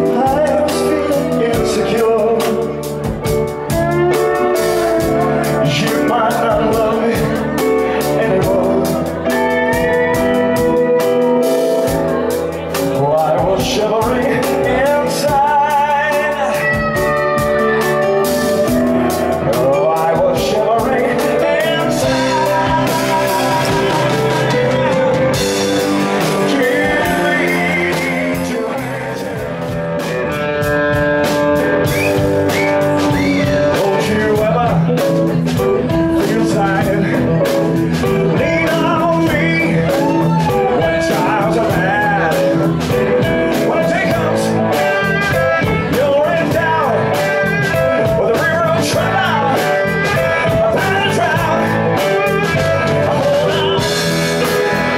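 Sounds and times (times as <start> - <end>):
blues rock band playing: 0.0 - 54.9
electric guitar: 0.0 - 54.9
man singing: 0.0 - 54.9.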